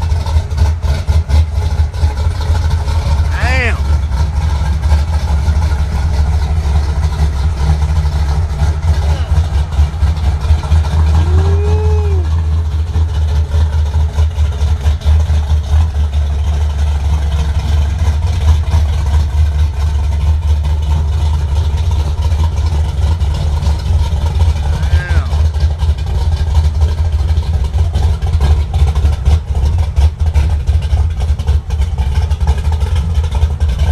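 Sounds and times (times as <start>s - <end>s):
vehicle engine rumbling: 0.0s - 33.9s.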